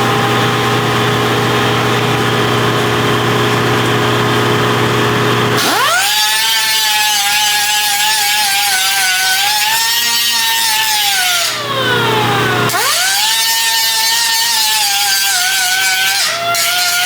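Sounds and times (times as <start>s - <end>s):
power tool motor whining: 0.0s - 17.0s.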